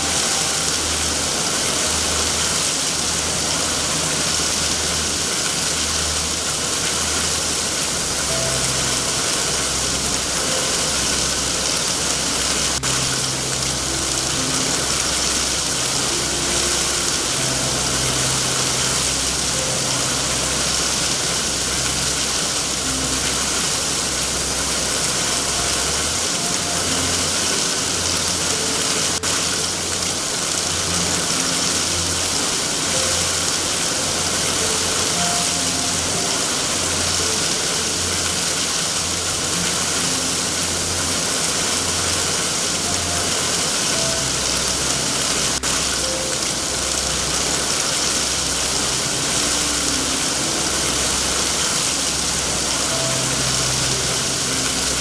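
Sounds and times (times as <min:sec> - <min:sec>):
heavy rain: 0:00.0 - 0:55.0
low rumbling drone: 0:00.0 - 0:55.0.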